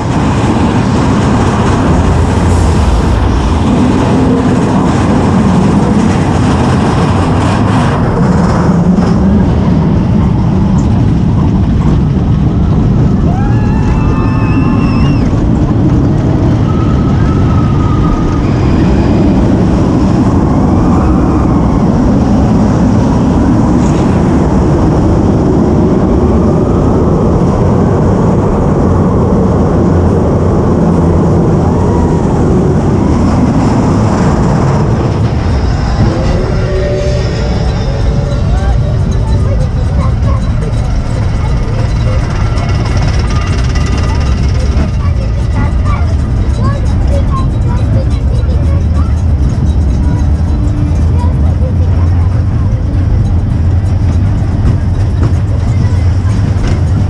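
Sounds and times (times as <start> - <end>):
roller coaster wheels rumbling: 0.0 - 57.0
wind on microphone: 0.0 - 57.0.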